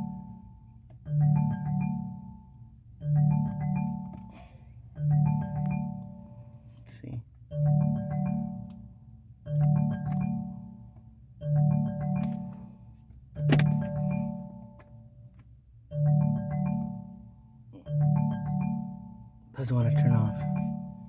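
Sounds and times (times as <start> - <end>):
marimba-like ringtone: 0.0 - 6.7, 7.5 - 15.2, 15.9 - 21.0.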